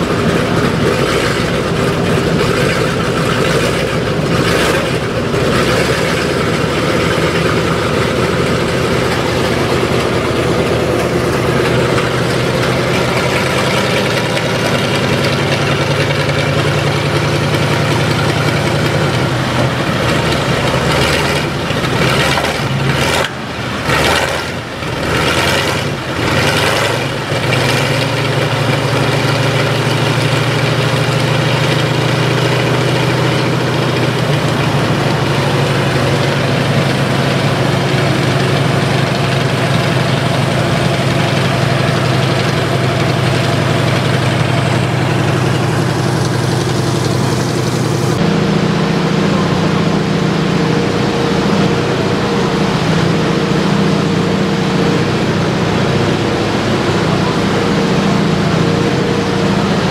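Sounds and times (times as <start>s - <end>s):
radial engine idling: 0.0s - 59.9s.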